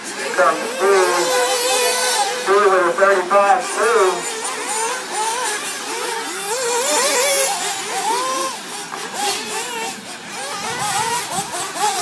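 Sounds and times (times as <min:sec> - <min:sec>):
small engines whining and revving: 0:00.0 - 0:12.0.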